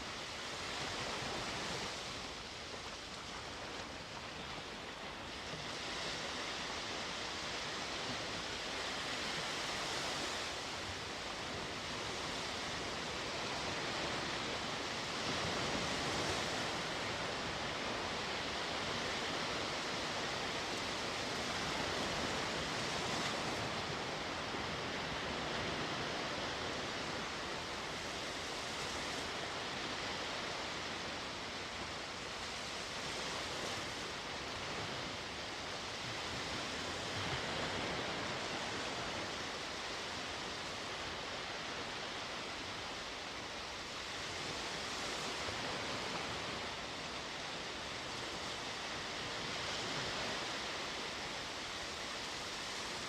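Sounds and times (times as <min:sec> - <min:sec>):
sea waves washing ashore: 0:00.0 - 0:53.0.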